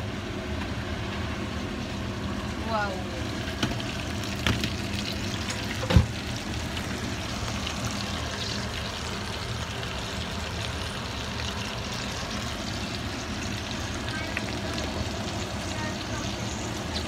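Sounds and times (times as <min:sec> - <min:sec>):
food cooking hiss and hum: 0:00.0 - 0:17.0.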